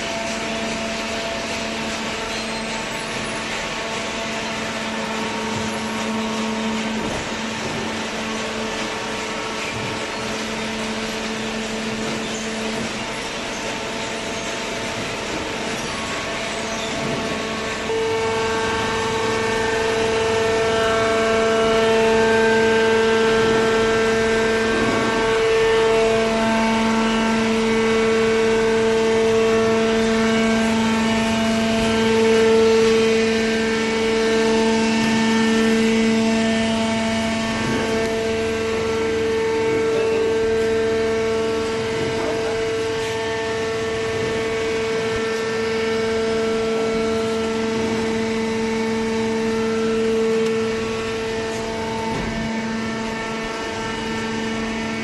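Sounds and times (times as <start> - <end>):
hydraulic power unit whine: 0.0 - 55.0
lower hum: 3.4 - 55.0.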